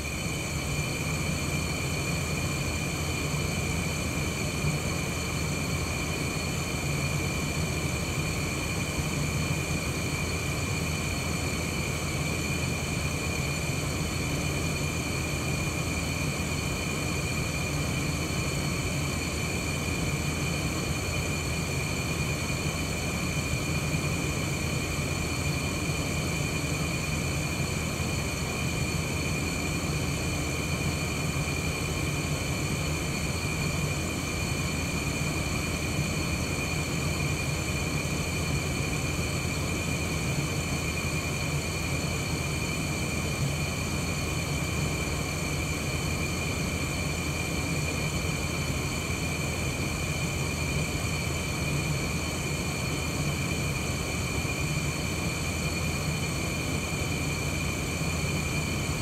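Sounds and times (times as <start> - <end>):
air conditioner running: 0.0 - 59.0.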